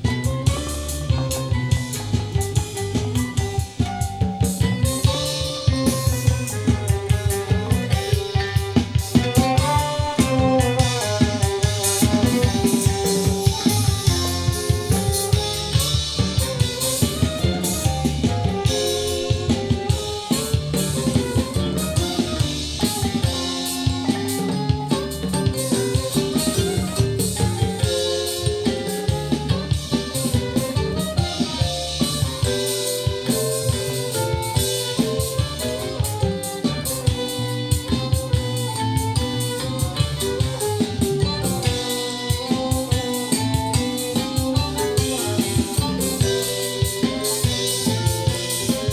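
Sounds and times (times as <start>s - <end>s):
band music over loudspeakers: 0.0s - 48.9s.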